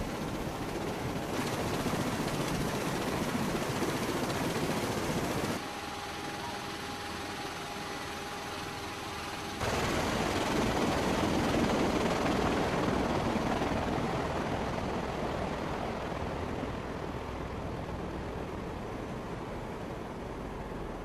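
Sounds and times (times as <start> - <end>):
engine and rotor drone: 0.0 - 21.0
rushing roar of rotor wash and wind: 0.0 - 21.0.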